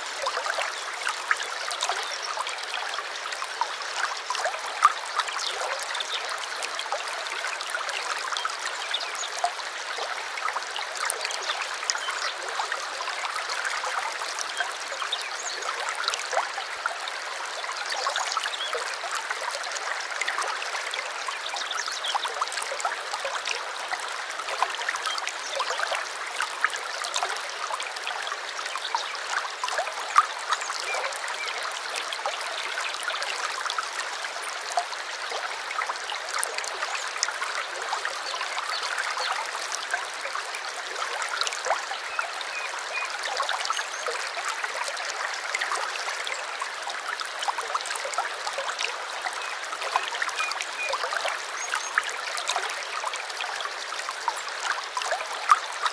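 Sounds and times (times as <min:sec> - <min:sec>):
small stream babbling: 0:00.0 - 0:55.9.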